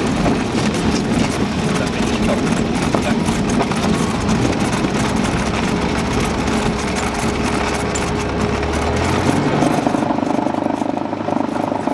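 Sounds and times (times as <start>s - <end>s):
small plane engine running: 0.0s - 11.9s
wheels rumbling over grass: 0.0s - 11.9s.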